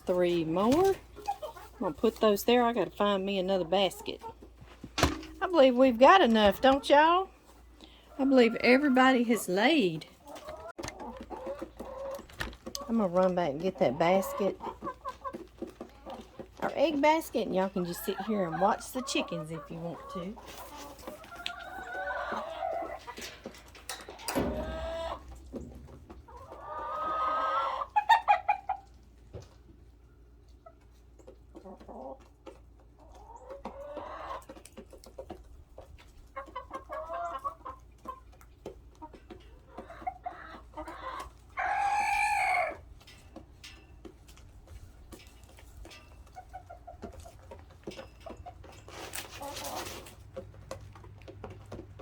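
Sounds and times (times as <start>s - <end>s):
hens clucking: 0.0s - 52.0s.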